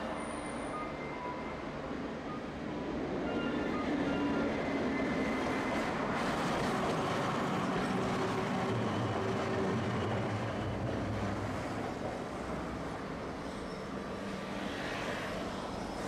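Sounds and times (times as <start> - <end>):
streetcar wheels and motor rumbling: 0.0 - 16.0.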